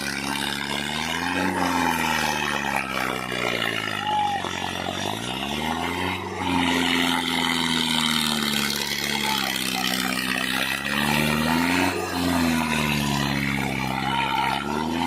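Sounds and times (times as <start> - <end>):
tractor engine revving: 0.0 - 15.0.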